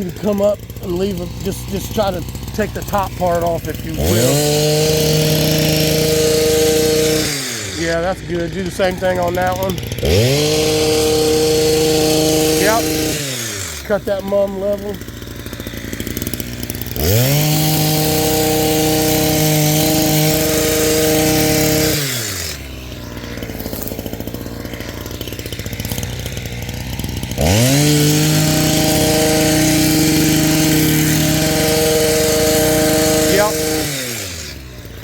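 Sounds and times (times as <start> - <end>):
hedge trimmer running: 0.0 - 35.0.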